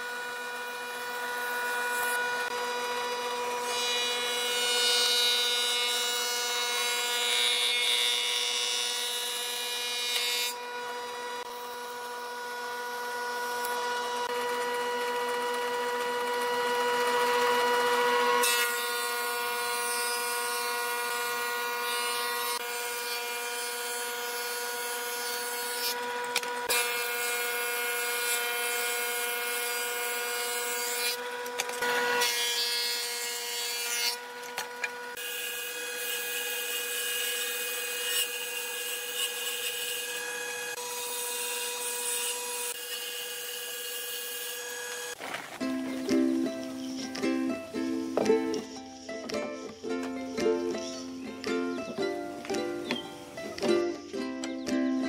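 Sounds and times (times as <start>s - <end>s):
cutterhead shaving wood: 0.0s - 55.0s
thickness planer whine: 0.0s - 55.0s.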